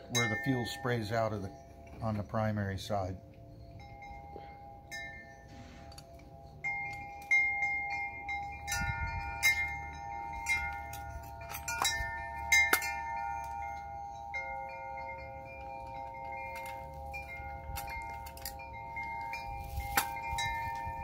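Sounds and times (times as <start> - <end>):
metallic chimes ringing: 0.0 - 21.0.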